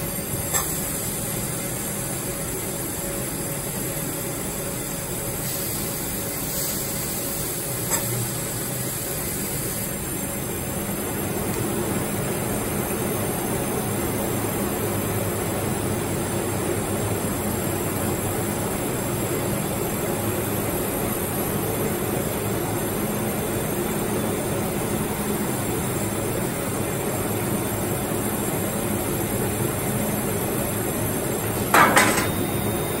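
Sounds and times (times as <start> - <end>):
laser cutting machine rumble and hiss: 0.0 - 33.0.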